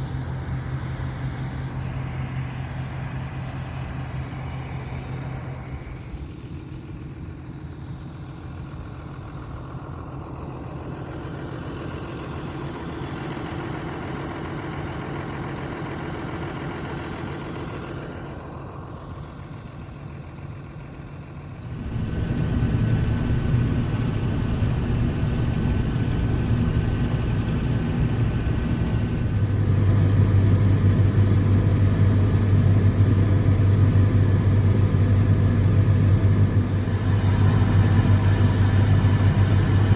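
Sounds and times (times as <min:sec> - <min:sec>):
farm machinery engine running: 0:00.0 - 0:39.9.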